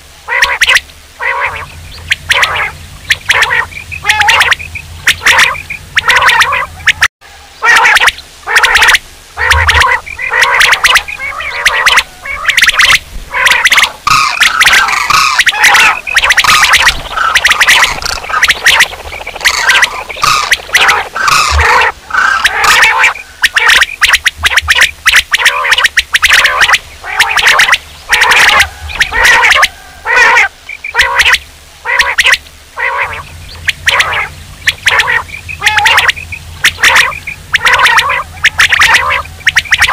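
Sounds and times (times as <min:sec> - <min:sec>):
quail calling rapidly: 0:00.2 - 0:39.9.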